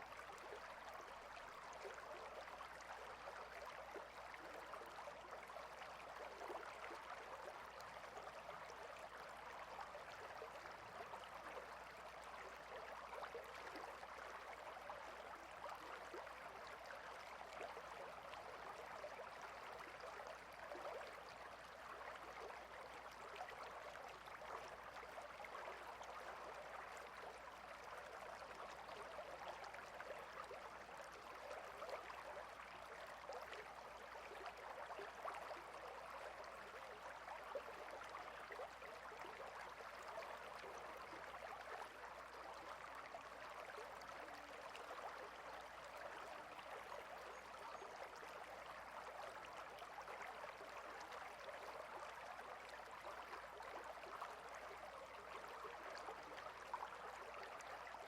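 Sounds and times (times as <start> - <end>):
small stream burbling: 0.0 - 58.0.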